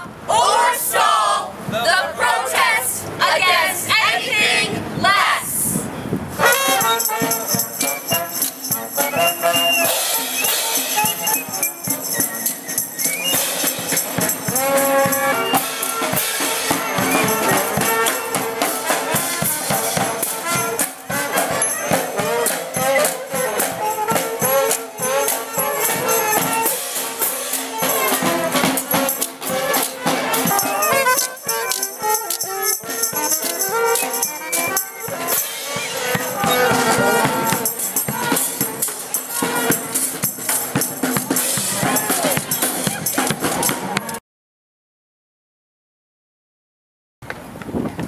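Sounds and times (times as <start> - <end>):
marching band playing: 0.0 - 5.6, 6.3 - 44.2.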